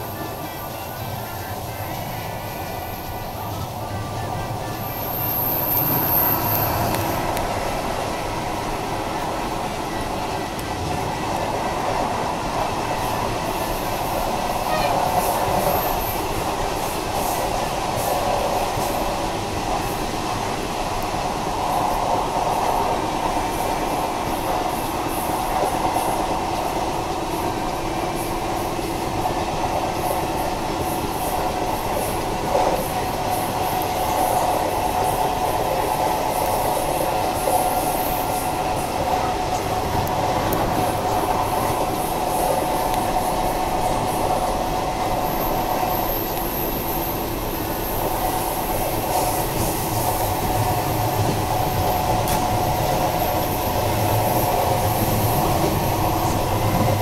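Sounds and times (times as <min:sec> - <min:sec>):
train rumble and rail noise: 0:00.0 - 0:57.0.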